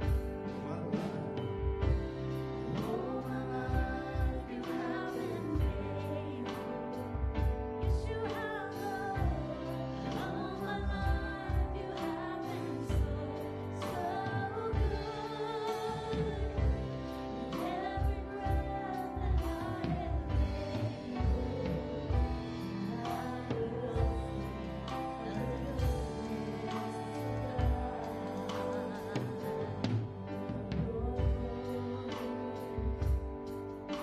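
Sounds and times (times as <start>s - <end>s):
praise band playing: 0.0s - 34.0s
women singing: 1.8s - 33.4s.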